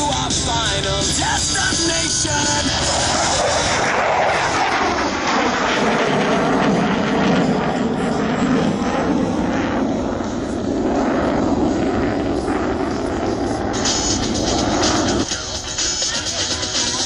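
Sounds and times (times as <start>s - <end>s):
jet flying past roaring: 0.0s - 17.0s.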